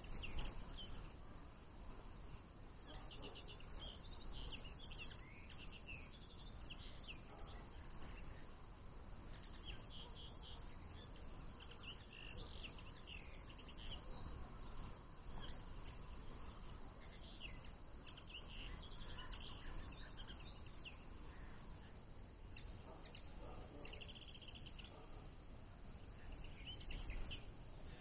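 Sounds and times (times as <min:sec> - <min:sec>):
birds twittering: 0:00.0 - 0:28.0.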